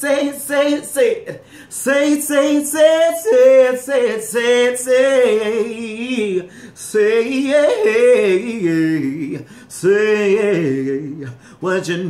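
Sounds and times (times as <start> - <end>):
man singing a cappella: 0.0 - 12.0.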